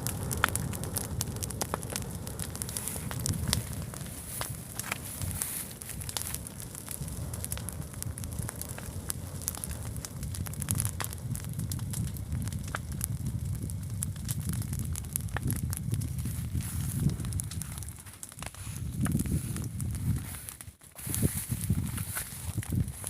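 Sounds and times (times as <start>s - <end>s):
large fire crackling: 0.0s - 23.0s.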